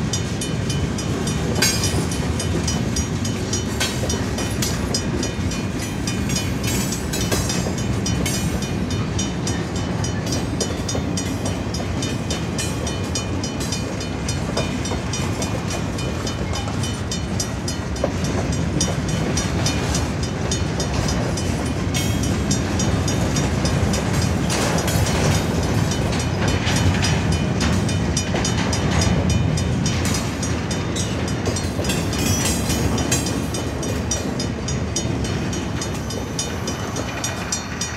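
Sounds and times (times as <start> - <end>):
train wheels rumbling on rail: 0.0 - 37.9
wheels clacking over rail joints: 0.0 - 37.9.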